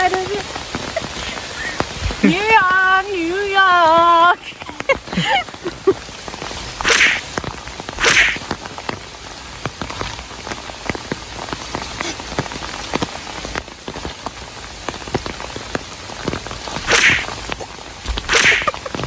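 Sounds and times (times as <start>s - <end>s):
heavy rain falling: 0.0s - 19.0s
raindrops ticking close by: 0.0s - 19.0s.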